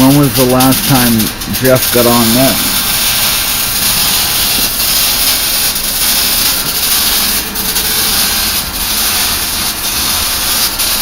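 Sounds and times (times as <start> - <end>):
loud rushing machine noise: 0.0 - 11.0.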